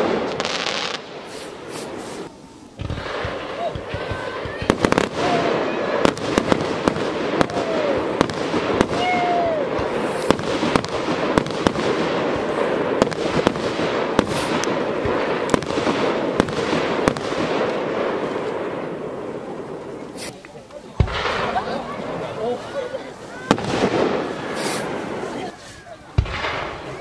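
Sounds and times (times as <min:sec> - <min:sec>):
fireworks bangs and cracks: 0:00.0 - 0:27.0.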